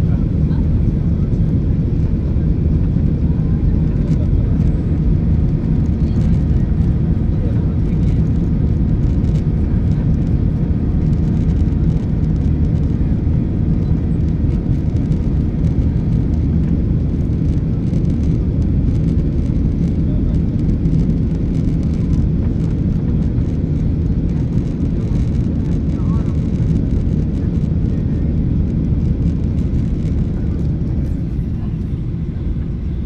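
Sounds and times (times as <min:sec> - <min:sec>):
jet engines droning: 0:00.0 - 0:33.0.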